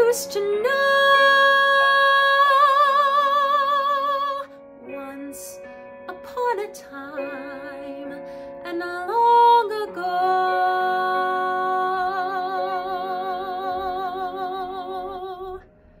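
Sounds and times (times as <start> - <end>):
woman singing: 0.0 - 15.6.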